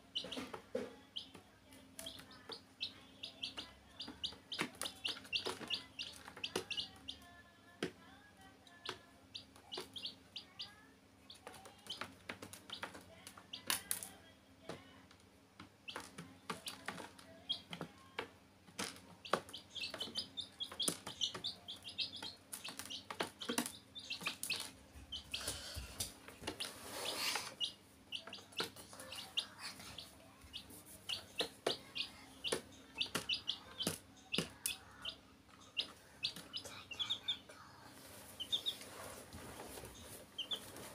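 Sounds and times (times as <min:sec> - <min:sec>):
chicks peeping: 0:00.0 - 0:07.9, 0:08.6 - 0:14.0, 0:15.6 - 0:40.9.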